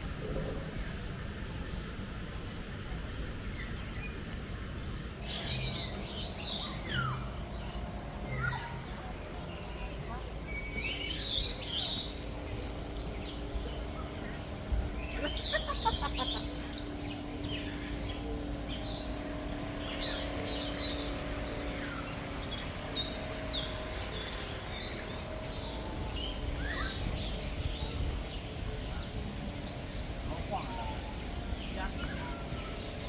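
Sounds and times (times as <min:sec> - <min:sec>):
birds chirping: 0:05.1 - 0:33.0.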